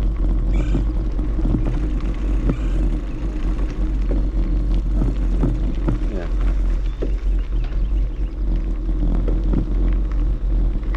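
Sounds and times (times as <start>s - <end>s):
faint ticks and rattles: 0.0s - 10.9s
wind buffeting microphone: 0.0s - 10.9s.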